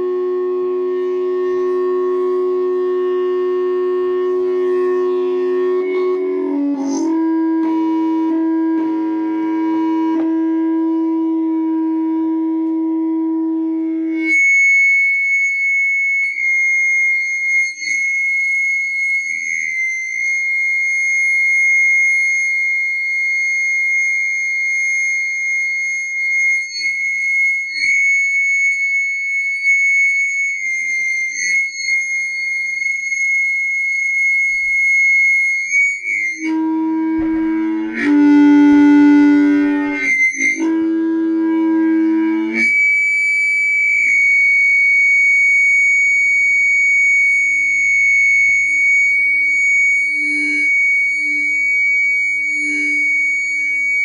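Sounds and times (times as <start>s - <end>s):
high-pitched audio feedback squeal: 0.0s - 54.0s.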